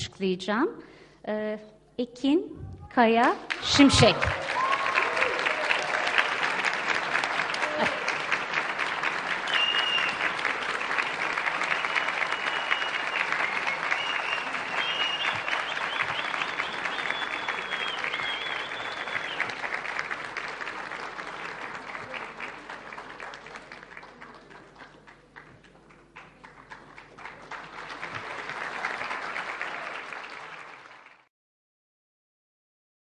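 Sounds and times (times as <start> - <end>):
crowd applauding: 3.2 - 31.3.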